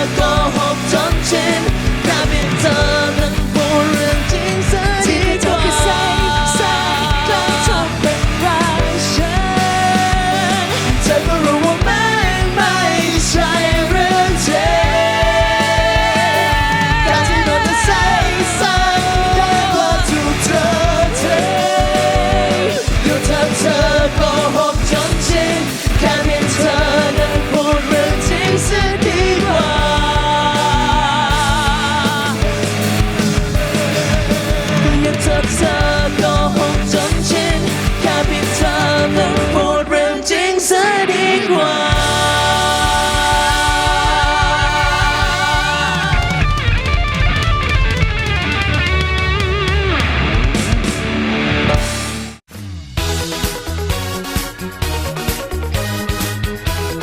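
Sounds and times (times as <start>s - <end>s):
steady drum beat: 0.0s - 39.9s, 41.9s - 52.4s
pop-rock band playing: 0.0s - 57.0s.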